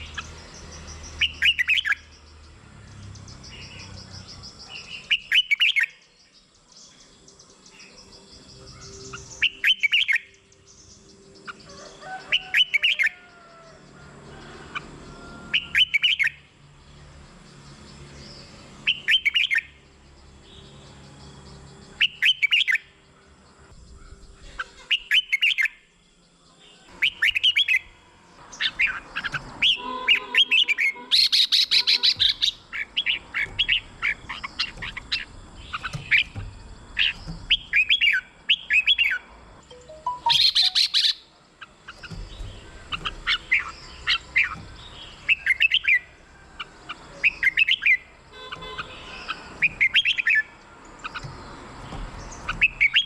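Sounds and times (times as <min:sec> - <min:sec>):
soft bird chirping: 0:00.0 - 0:13.7, 0:15.6 - 0:53.0
bird singing bright phrases: 0:00.0 - 0:14.0, 0:15.1 - 0:53.0.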